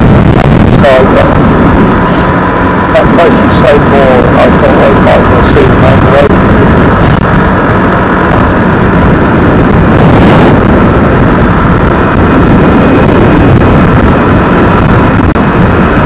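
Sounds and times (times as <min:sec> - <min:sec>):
motorbike engine: 0:00.0 - 0:16.0
road noise: 0:00.0 - 0:16.0
wind rumble on microphone: 0:00.0 - 0:16.0.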